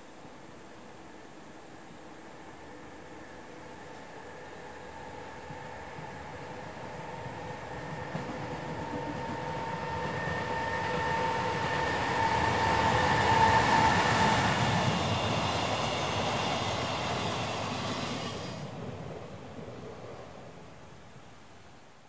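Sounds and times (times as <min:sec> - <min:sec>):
freight train rumbling past: 0:02.1 - 0:21.4.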